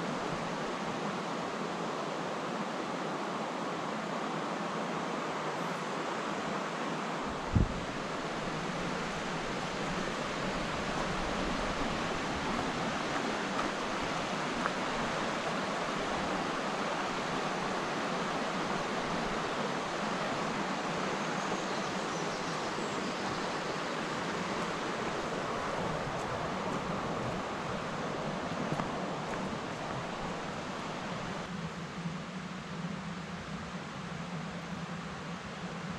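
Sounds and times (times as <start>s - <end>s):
river rushing over rocks: 0.0s - 31.5s.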